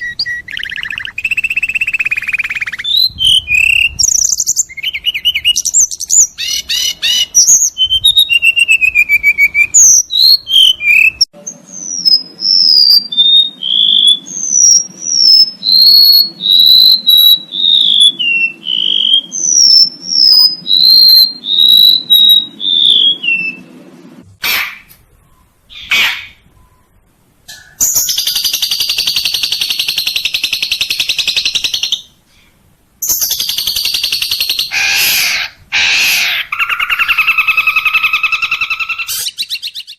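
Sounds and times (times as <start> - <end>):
songbird trills and chirps: 0.0 - 23.6, 25.1 - 32.2, 33.0 - 35.0, 35.8 - 39.9
bird whistling downward notes: 0.0 - 23.9, 27.8 - 32.1, 33.0 - 35.2, 35.8 - 39.9.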